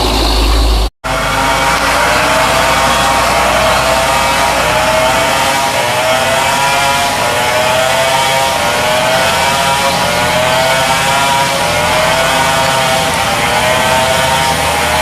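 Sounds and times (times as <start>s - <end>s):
truck diesel engine revving: 0.0s - 15.0s.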